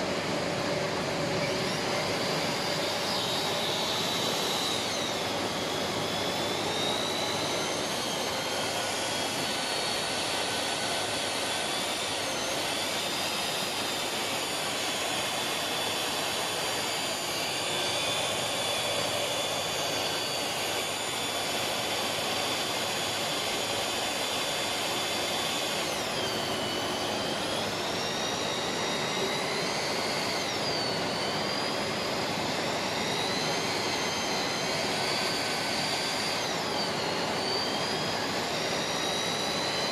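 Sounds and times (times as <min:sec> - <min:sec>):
pipe facer motor whine: 0:00.0 - 0:39.9.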